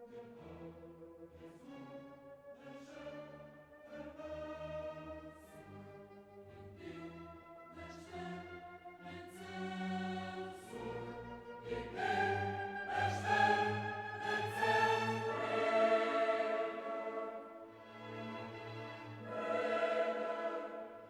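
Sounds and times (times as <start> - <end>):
orchestral music with choir: 0.0 - 21.0.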